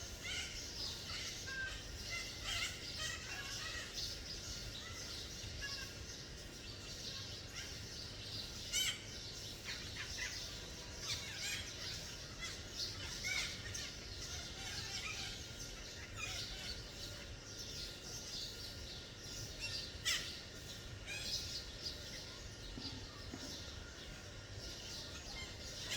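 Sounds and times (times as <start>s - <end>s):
parakeets calling: 0.0s - 25.9s.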